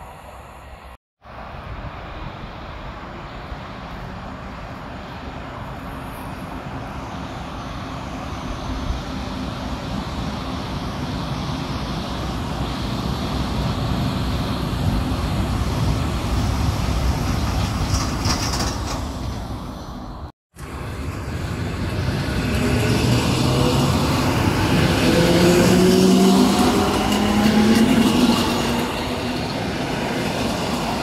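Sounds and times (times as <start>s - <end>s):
electric train rumbling: 0.0s - 31.0s.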